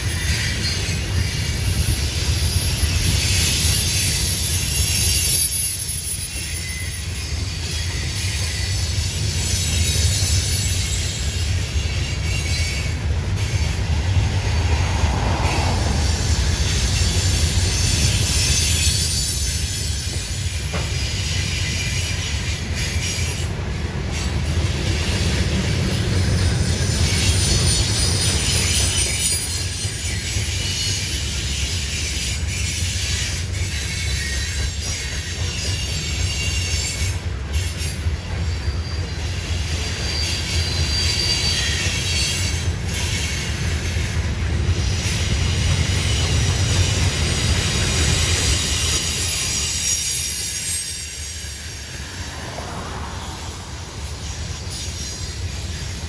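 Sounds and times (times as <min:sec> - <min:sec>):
high-pitched wheel squeal: 0:00.0 - 0:23.5, 0:26.1 - 0:56.0
wheels rumbling on rail: 0:00.0 - 0:56.0.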